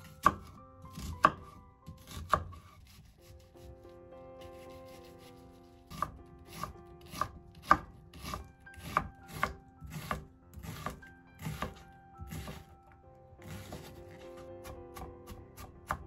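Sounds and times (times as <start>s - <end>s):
knife chopping on wooden board: 0.0s - 3.7s, 4.4s - 12.8s, 13.4s - 16.0s.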